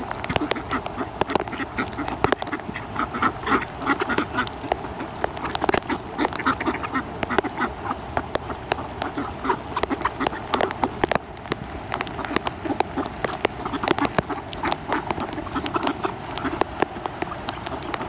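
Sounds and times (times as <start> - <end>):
ducks quacking: 0.0 - 11.2, 11.9 - 18.0
bills pecking grain: 0.0 - 18.0.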